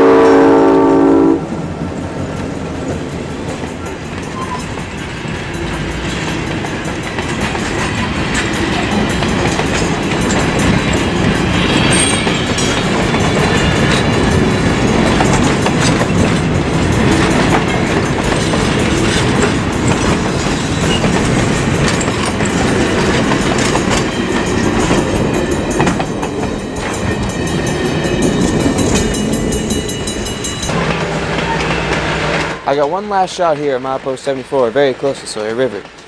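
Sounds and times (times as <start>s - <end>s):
freight train rolling past: 0.0s - 36.0s.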